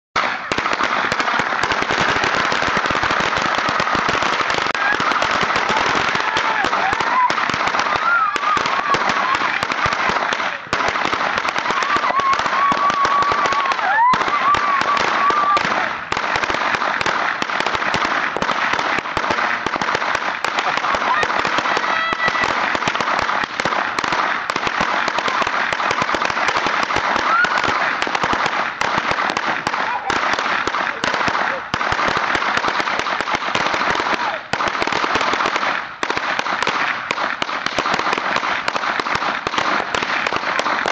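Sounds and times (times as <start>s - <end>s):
firecrackers banging rapidly: 0.2s - 40.9s.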